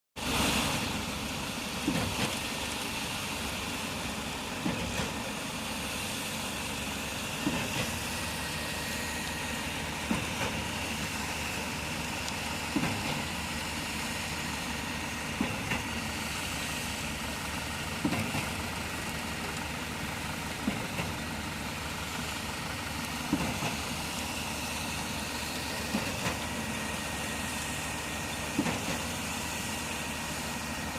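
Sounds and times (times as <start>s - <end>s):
concrete pump running: 0.2s - 30.9s.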